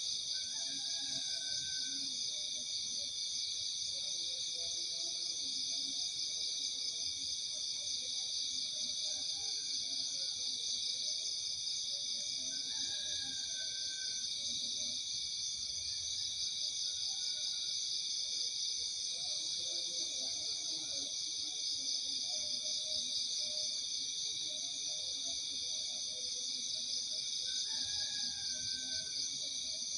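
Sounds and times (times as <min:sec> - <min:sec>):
night insects chirring: 0:00.0 - 0:29.9.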